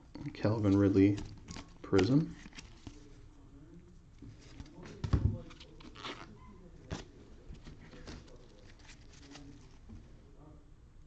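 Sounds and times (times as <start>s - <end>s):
soft rustles: 0.6s - 10.3s.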